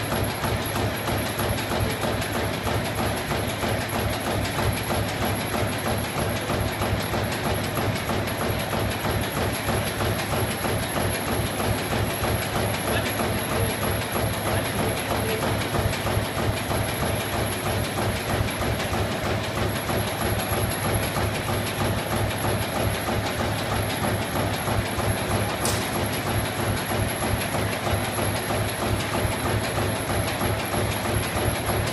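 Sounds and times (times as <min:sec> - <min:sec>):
punching machine clattering: 0:00.0 - 0:31.9.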